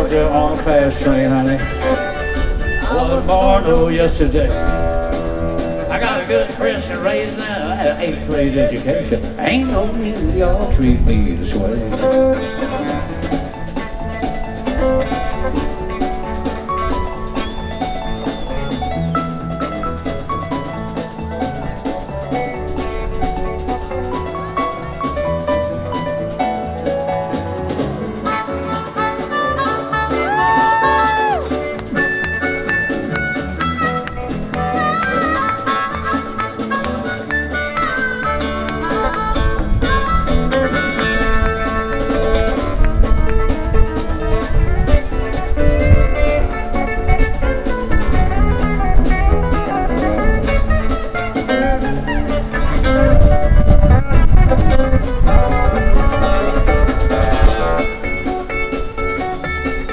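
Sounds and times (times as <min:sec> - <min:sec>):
bass and drums: 0:00.0 - 0:59.9
live country band playing: 0:00.0 - 0:59.9.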